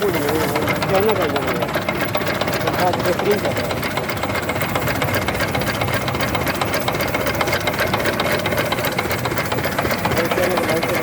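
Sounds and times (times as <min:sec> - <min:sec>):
diesel engine clattering: 0:00.0 - 0:11.0.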